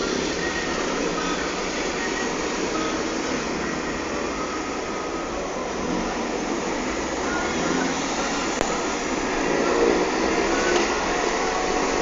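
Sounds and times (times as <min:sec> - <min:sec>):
heavy rain and floodwater rushing: 0:00.0 - 0:12.0.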